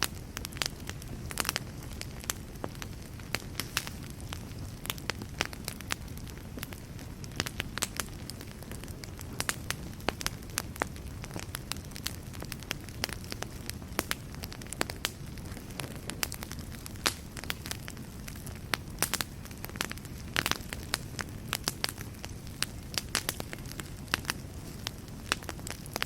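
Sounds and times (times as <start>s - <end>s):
fire crackling and popping: 0.0s - 26.0s
low rumble of wood fire: 0.0s - 26.0s.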